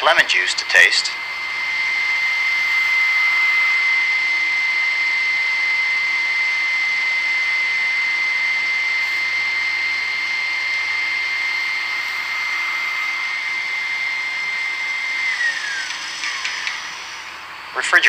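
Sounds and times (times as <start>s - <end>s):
stand mixer motor whine: 0.0s - 18.0s.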